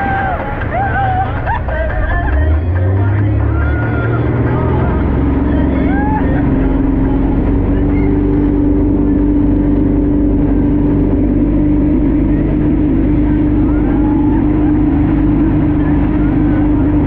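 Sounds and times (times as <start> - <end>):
speedboat engine droning: 0.0 - 17.0.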